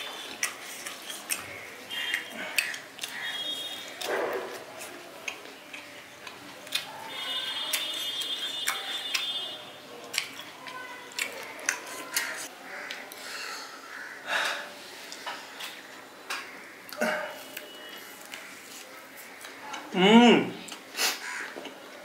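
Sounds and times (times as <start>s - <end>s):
person chewing food: 0.0s - 13.2s, 15.1s - 20.0s.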